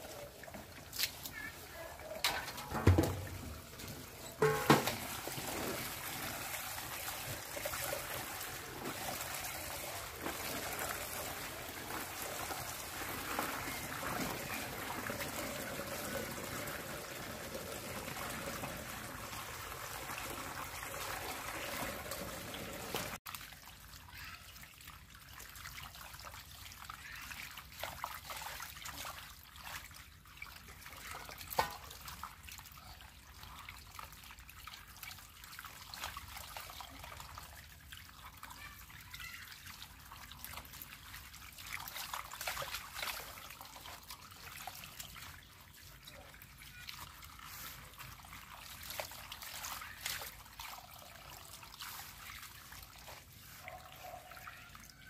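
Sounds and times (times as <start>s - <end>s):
small water splashes: 0.0s - 55.0s
water pouring: 0.0s - 55.0s.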